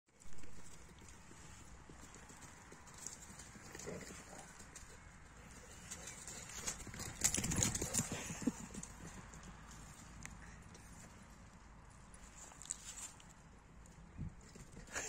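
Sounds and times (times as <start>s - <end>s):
dogs' paws galloping on grass: 0.1s - 15.0s.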